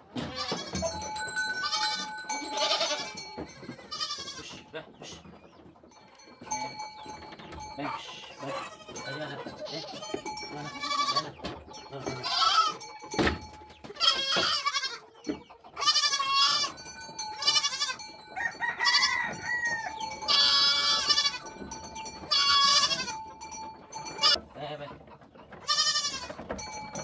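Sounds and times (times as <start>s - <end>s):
goats bleating: 0.2s - 5.2s, 6.5s - 13.1s, 13.9s - 15.1s, 15.8s - 24.4s, 25.6s - 27.0s.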